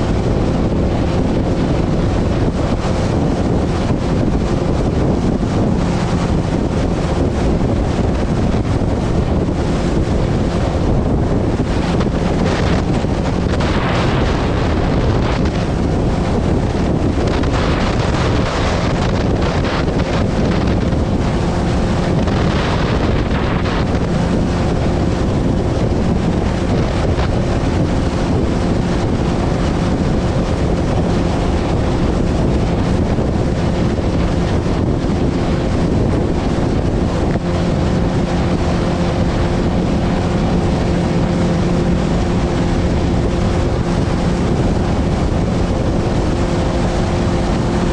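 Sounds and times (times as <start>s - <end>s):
boat motor droning: 0.0s - 47.9s
choppy water: 0.0s - 47.9s
wind buffeting microphone: 0.0s - 47.9s.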